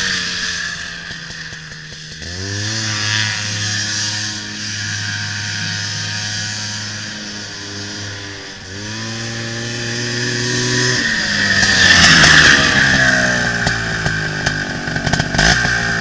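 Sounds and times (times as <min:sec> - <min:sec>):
dune buggy engine: 0:00.0 - 0:16.0.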